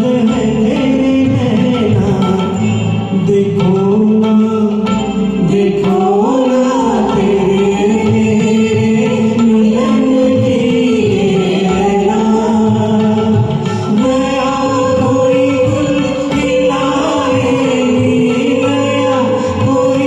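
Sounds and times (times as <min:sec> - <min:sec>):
instrumental backing track: 0:00.0 - 0:20.0
person singing karaoke: 0:00.0 - 0:20.0.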